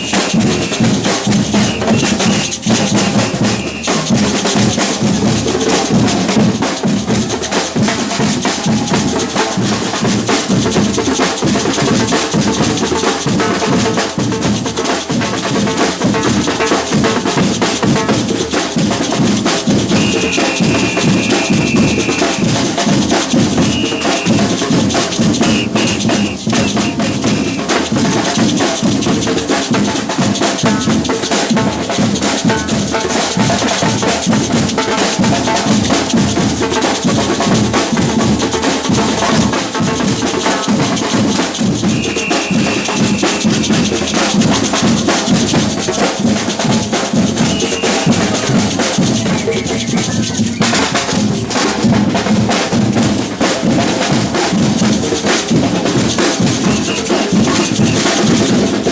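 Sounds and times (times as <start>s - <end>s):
samba drum ensemble: 0.0s - 58.9s.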